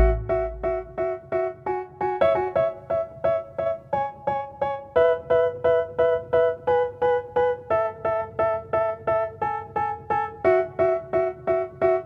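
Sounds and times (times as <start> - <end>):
electric piano repeated chords: 0.0 - 12.0.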